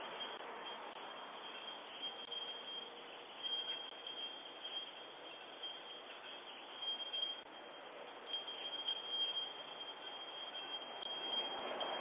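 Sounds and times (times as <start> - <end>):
faint high-pitched whine: 0.0 - 12.0
outdoor ambience hiss: 0.0 - 12.0.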